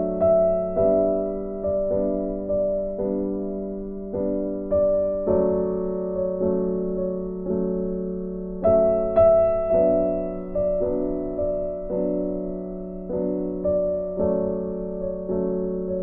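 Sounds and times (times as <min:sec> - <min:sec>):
slow gentle piano chords: 0:00.0 - 0:16.0.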